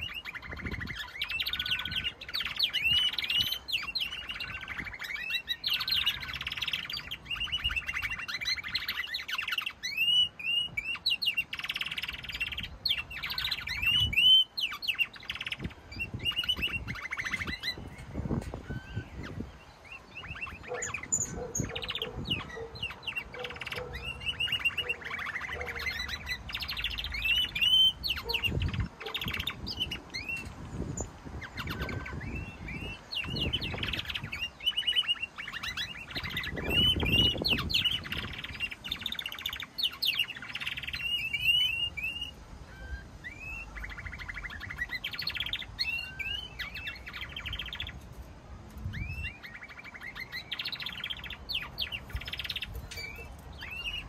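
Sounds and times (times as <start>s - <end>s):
canaries singing: 0.0s - 54.0s.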